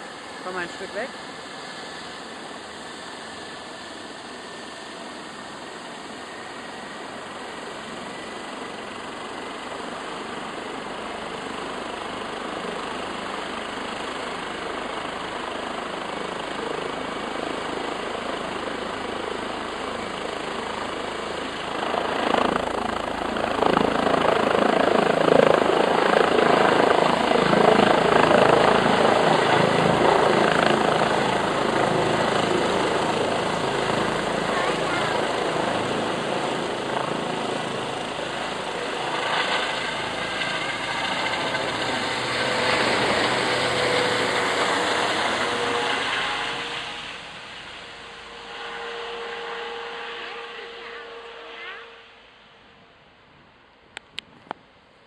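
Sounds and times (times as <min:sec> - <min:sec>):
helicopter rotors: 0:00.0 - 0:53.2.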